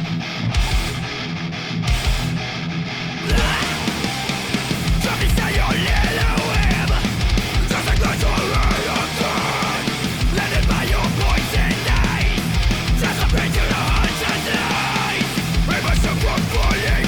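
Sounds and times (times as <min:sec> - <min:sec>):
heavy metal song: 0:00.0 - 0:17.0.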